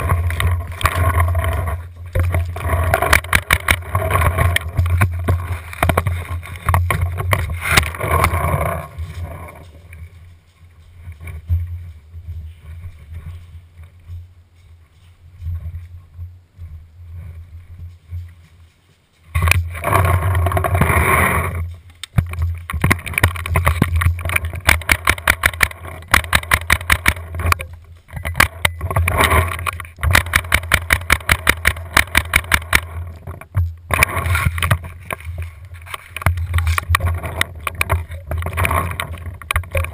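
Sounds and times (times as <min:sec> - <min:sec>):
handling noise: 0:00.0 - 0:39.9.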